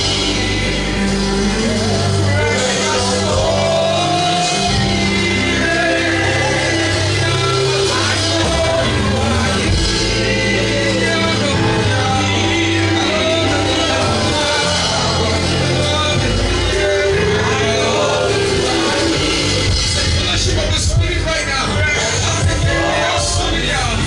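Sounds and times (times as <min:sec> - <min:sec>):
bass: 0:00.0 - 0:24.0
held keyboard notes: 0:00.0 - 0:24.0
voices singing: 0:00.0 - 0:24.0.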